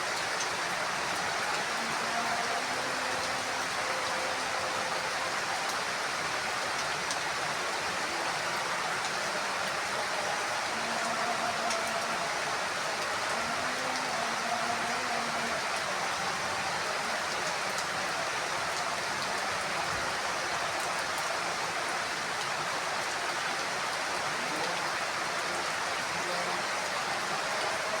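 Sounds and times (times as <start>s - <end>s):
heavy rain on a roof: 0.0s - 28.0s.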